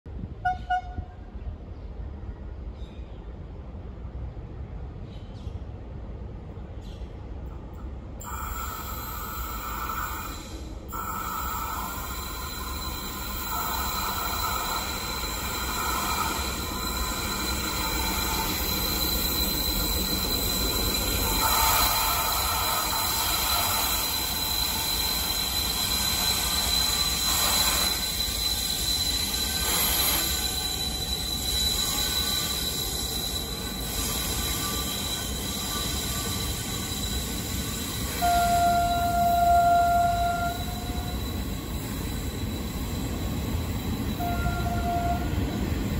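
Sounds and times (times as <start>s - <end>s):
diesel locomotive engine: 0.1s - 45.9s
train wheels rolling on rails: 3.4s - 45.9s
high-pitched wheel squeal: 8.2s - 45.9s.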